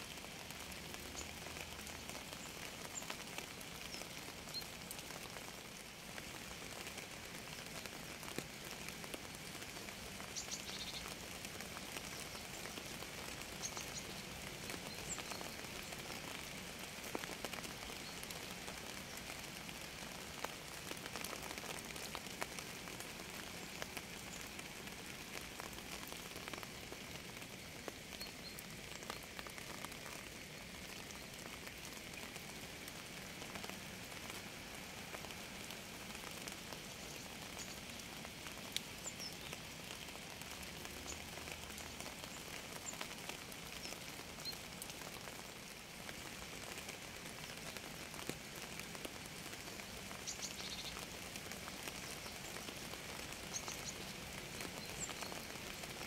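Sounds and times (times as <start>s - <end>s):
rain drops pattering: 0.0s - 56.0s.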